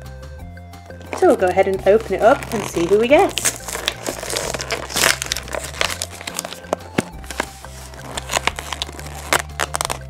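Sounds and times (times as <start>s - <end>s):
soft background music: 0.0s - 10.0s
plastic packaging crinkling: 0.9s - 10.0s.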